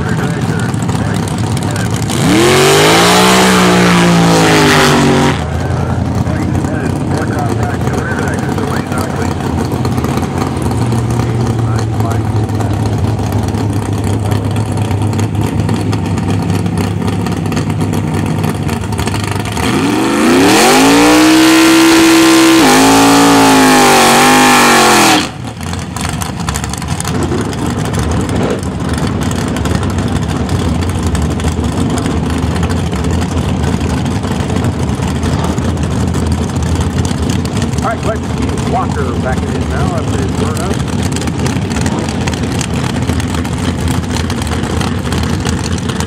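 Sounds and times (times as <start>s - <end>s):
drag car engine revving: 0.0s - 46.0s.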